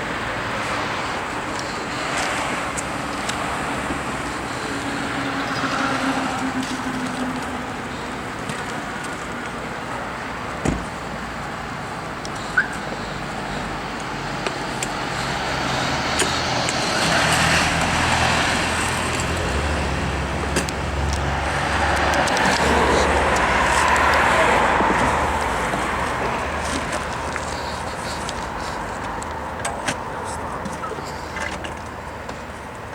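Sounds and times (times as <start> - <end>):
vehicles passing: 0.0 - 32.9.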